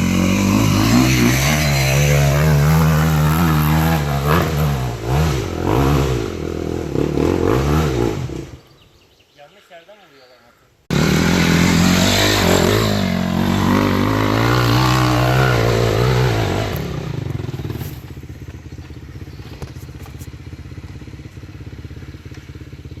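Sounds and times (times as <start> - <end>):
dirt bike engine revving: 0.0 - 8.7, 10.9 - 23.0.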